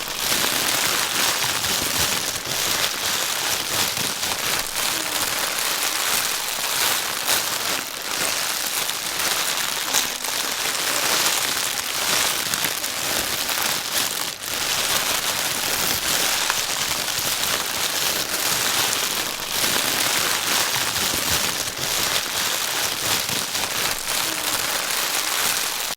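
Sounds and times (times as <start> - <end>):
plastic bag crinkling: 0.0 - 25.9.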